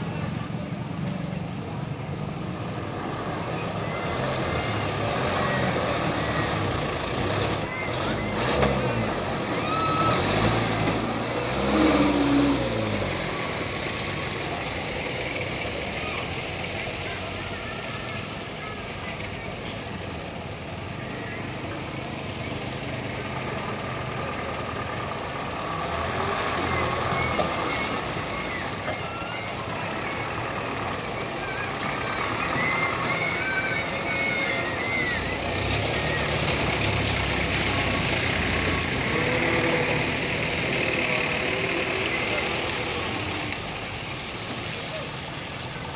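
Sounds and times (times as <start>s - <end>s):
faint wavering voices: 0.0s - 45.9s
heavy truck engine under load: 0.0s - 45.9s
road noise: 0.0s - 45.9s.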